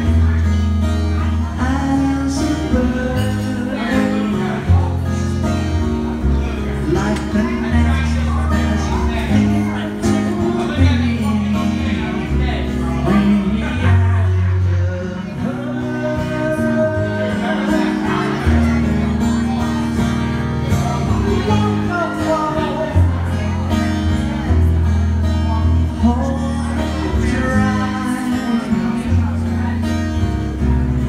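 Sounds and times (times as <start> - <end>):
man singing: 0.0 - 24.8, 25.4 - 31.0
strummed acoustic guitar: 0.0 - 31.0.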